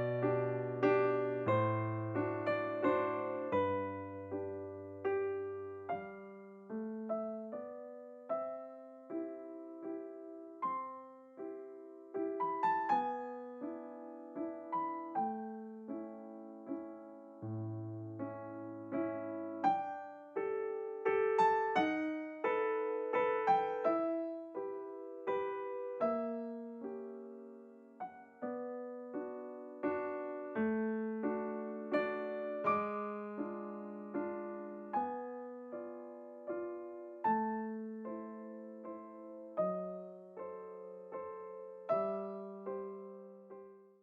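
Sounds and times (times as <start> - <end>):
slow electric piano piece: 0.0 - 44.0.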